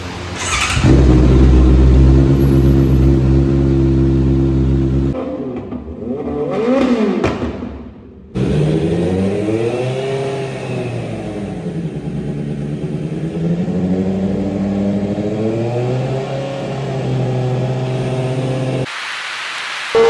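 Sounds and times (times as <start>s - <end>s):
motorcycle engine revving: 0.3s - 18.9s.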